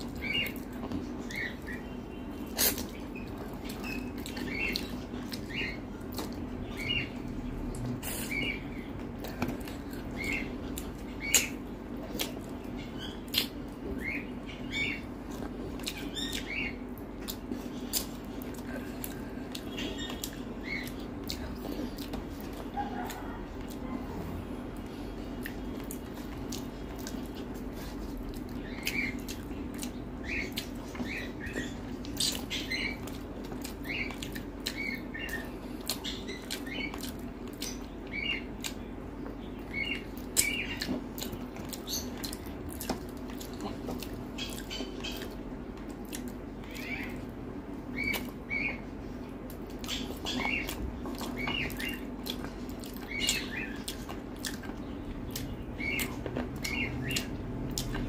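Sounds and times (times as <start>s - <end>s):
steady low hum: 0.0s - 58.0s
chewing and lip smacks: 2.4s - 47.3s, 49.2s - 58.0s.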